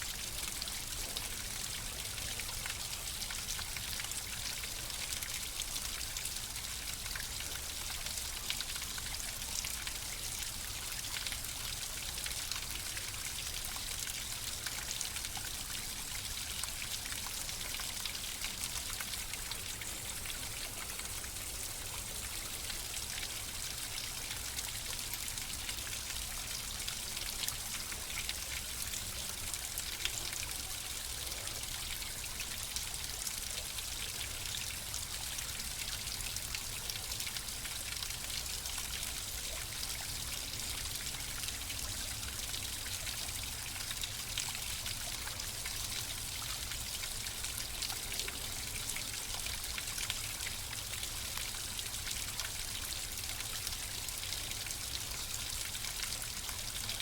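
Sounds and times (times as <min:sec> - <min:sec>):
stream trickling and rushing: 0:00.0 - 0:57.0.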